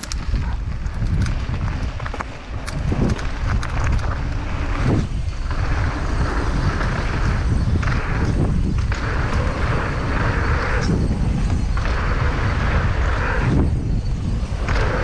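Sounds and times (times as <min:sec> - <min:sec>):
bike knocks and rattles: 0:00.0 - 0:12.6
bike tyres on dirt: 0:00.0 - 0:15.0
wind buffeting microphone: 0:00.0 - 0:15.0.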